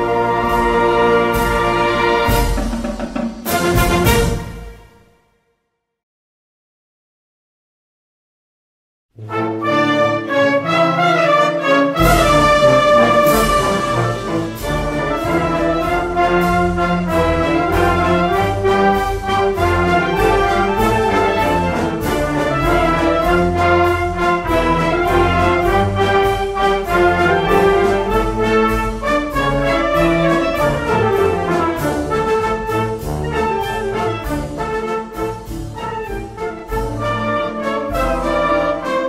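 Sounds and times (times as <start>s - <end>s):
instrumental brass music: 0.0s - 5.4s, 9.2s - 39.0s.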